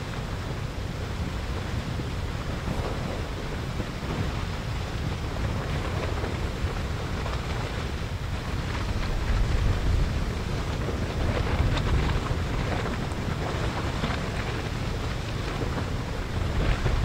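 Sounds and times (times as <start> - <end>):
faint crackles: 0.0 - 17.0
lava flowing rushing: 0.0 - 17.0
wind on microphone: 0.0 - 17.0.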